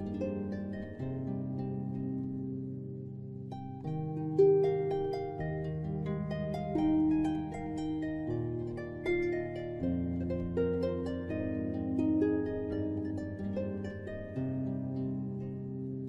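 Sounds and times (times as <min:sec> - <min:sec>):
plucked harp-like notes: 0:00.0 - 0:16.0.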